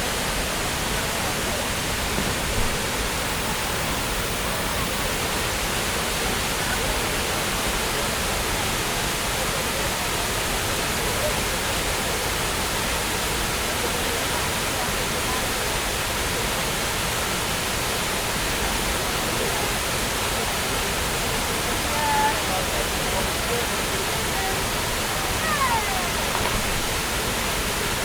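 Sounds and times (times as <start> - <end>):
faint voices of people: 0.0 - 28.0
waterfall rushing: 0.0 - 28.0.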